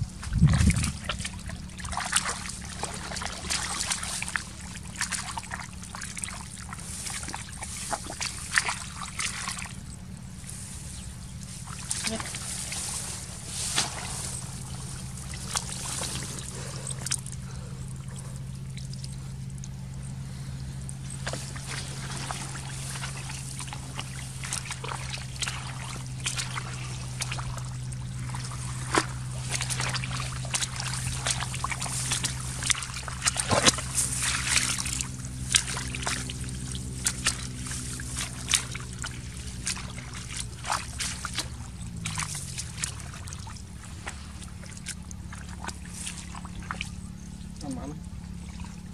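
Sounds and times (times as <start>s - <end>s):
low engine hum: 0.0s - 48.9s
splashing in shallow water: 0.0s - 48.9s.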